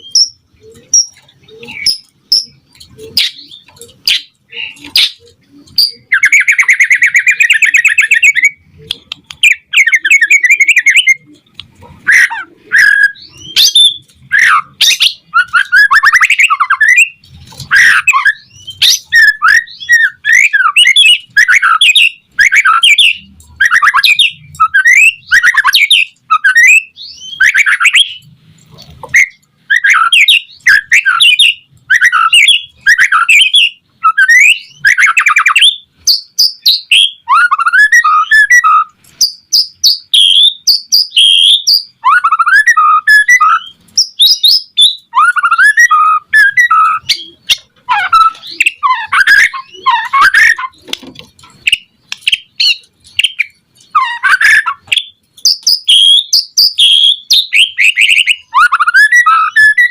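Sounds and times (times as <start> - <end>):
bird singing whistles and warbles: 0.0 - 59.9.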